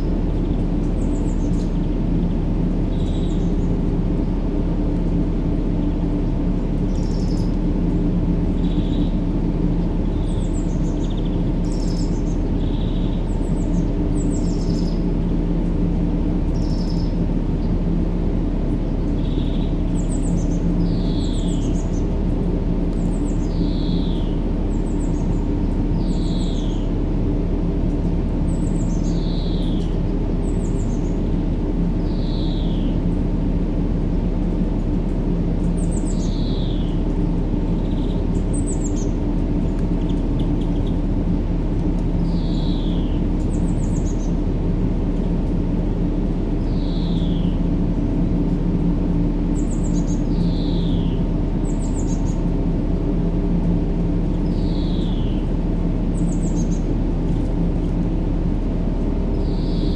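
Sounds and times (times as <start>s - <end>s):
low white noise with faint hum: 0.0s - 59.9s.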